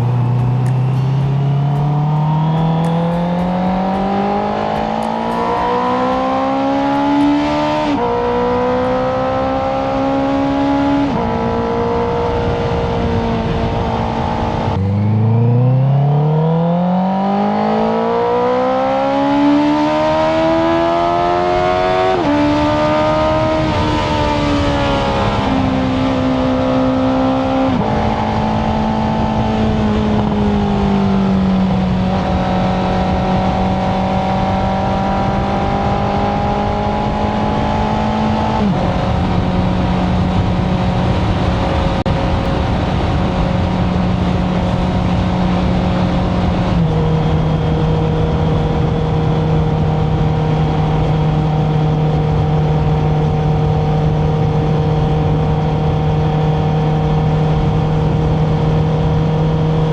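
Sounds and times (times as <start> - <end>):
motorcycle engine shifting gears: 0.0 - 59.9.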